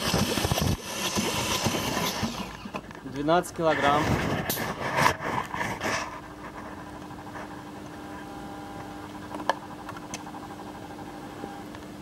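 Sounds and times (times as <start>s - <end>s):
steady low hum: 2.4s - 12.0s.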